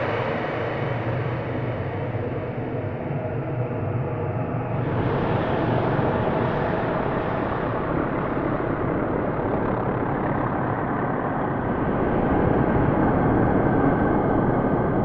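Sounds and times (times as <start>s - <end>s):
ambient rumbling drone: 0.0s - 15.0s.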